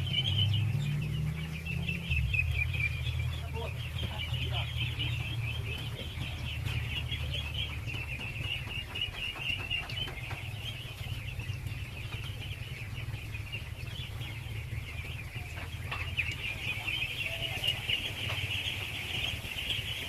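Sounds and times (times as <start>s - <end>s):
ducklings peeping: 0.0s - 20.0s
low hum: 0.0s - 20.0s.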